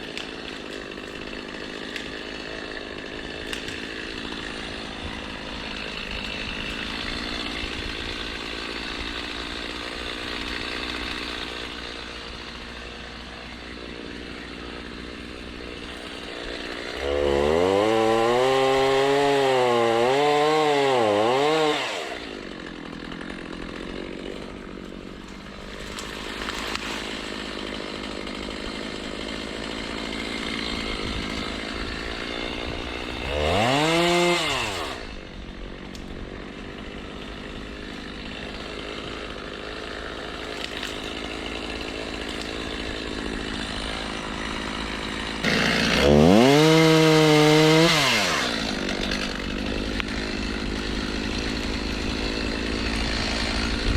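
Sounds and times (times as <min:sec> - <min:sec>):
chainsaw idling: 0:00.0 - 0:53.9
chainsaw revving: 0:00.0 - 0:53.9.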